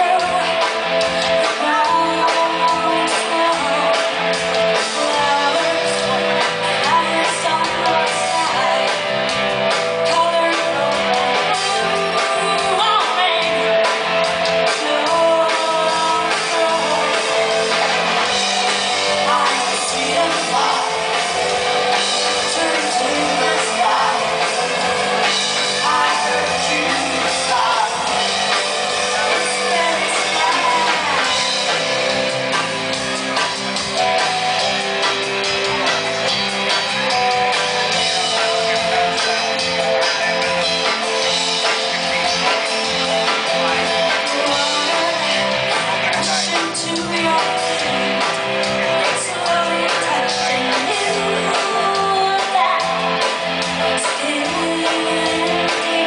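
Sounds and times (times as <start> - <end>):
woman singing: 0.0 - 32.7, 37.0 - 56.0
drums: 0.0 - 56.0
electric guitars: 0.0 - 56.0.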